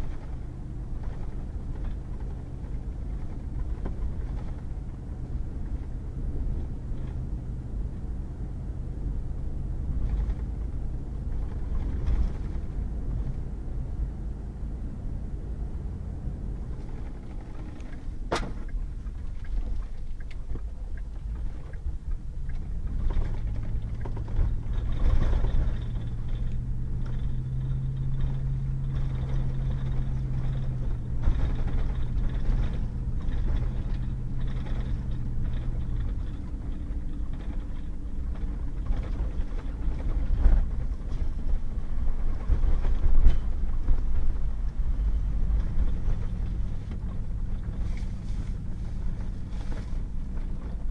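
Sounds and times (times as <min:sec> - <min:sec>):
truck engine and tyre rumble: 0:00.0 - 0:50.9.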